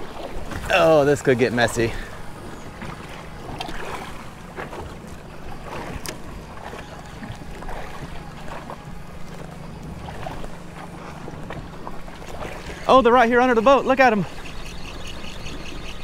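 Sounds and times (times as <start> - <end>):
outboard motor idling: 0.0 - 16.0
water lapping against boat: 0.0 - 16.0.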